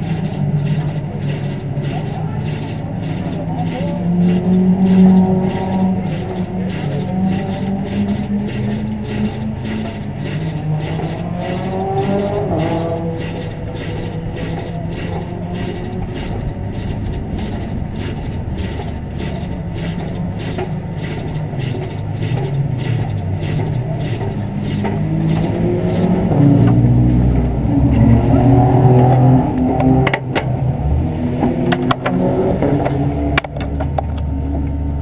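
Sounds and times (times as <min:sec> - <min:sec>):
sharp clicks and knocks: 0:00.0 - 0:34.8
race car engines running: 0:00.0 - 0:35.0.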